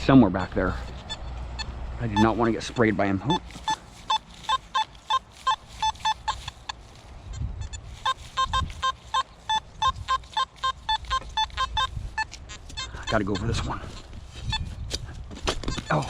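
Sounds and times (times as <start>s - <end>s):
metal detector beeping: 0.0s - 16.0s.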